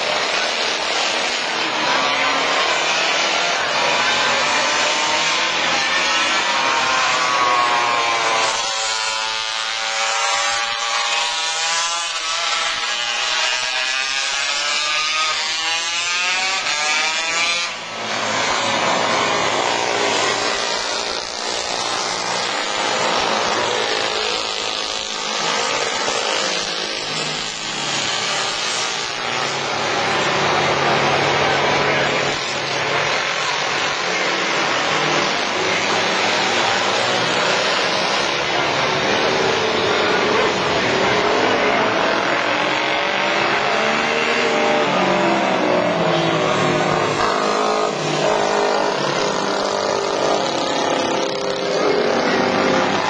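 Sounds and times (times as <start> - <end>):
racing motorcycles passing: 0.0 - 53.0.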